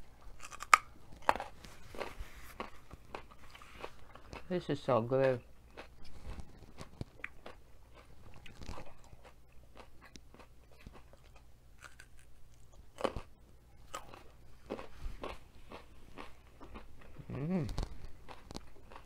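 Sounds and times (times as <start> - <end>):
crunchy biting and chewing: 0.3 - 4.5, 5.2 - 19.0.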